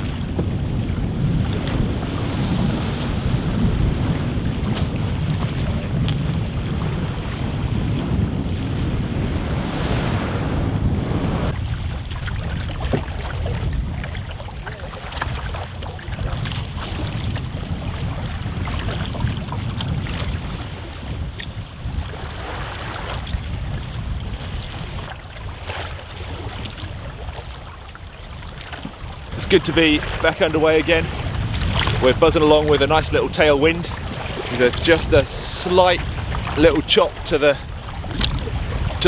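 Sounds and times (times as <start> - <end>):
water lapping and splashing: 0.0 - 39.0
wind buffeting microphone: 0.0 - 39.0.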